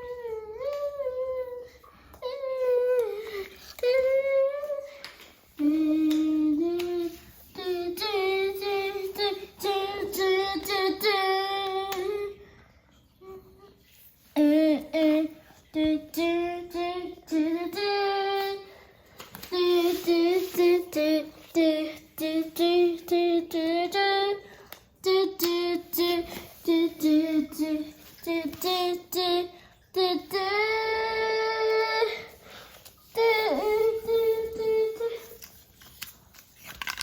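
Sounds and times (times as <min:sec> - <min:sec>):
child singing: 0:00.0 - 0:05.0, 0:05.6 - 0:12.4, 0:14.4 - 0:18.8, 0:19.5 - 0:32.4, 0:33.1 - 0:35.4.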